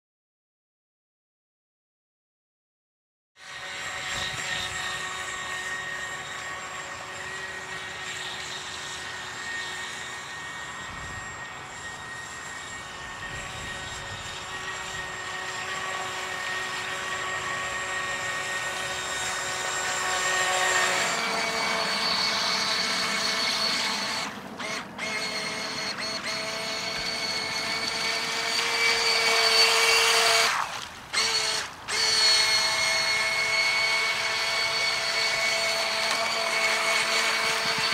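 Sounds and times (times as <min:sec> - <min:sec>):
electric motor whining: 0:03.4 - 0:37.9.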